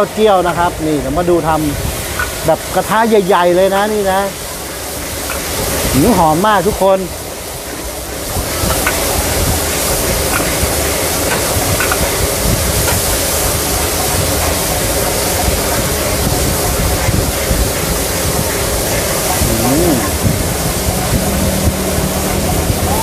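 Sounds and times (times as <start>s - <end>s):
garlic sizzling in hot oil: 0.0s - 23.0s.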